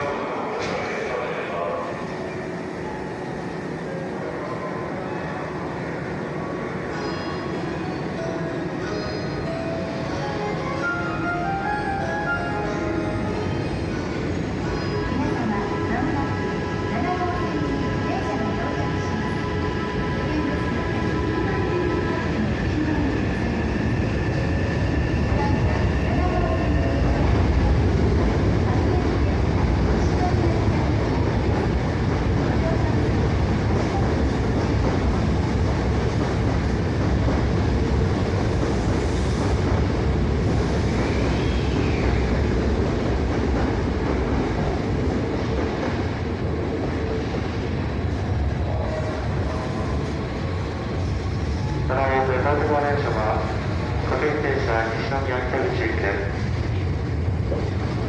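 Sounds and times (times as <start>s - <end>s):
electric train rumble: 5.4s - 58.0s.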